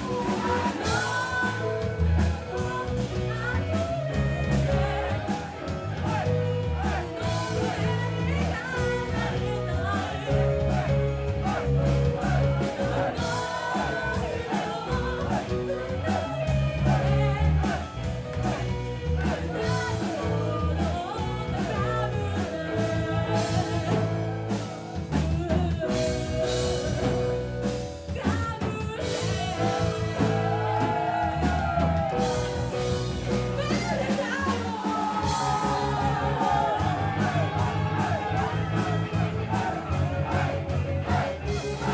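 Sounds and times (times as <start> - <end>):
woman singing lead: 0.0 - 27.5, 28.1 - 41.9
drums: 0.0 - 41.9
electric bass: 0.0 - 41.9
electric guitar: 0.0 - 41.9.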